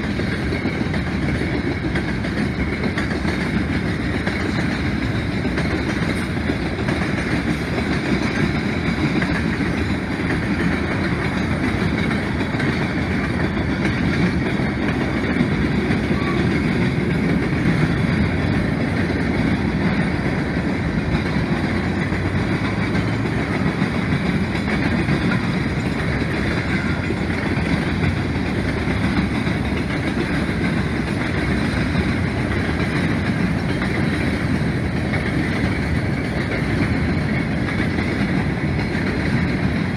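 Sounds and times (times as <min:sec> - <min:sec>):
freight train rolling past: 0:00.0 - 0:39.9
steel wheels clattering on rails: 0:00.0 - 0:39.9.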